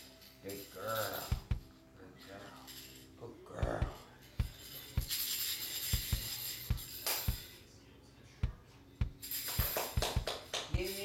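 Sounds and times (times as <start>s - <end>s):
jingling tambourine: 0.0s - 7.7s, 8.4s - 11.0s
background music with steady beat: 0.0s - 11.0s.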